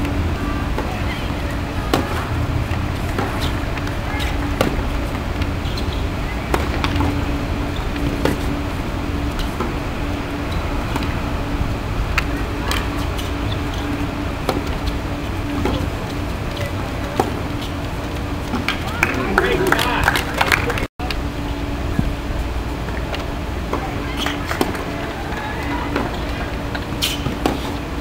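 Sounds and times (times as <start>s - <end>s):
low background rumble: 0.0s - 28.0s.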